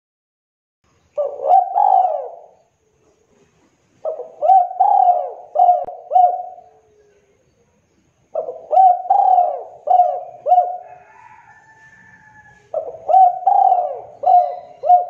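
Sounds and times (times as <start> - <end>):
dove cooing: 1.1 - 2.6, 3.5 - 7.4, 8.3 - 15.0.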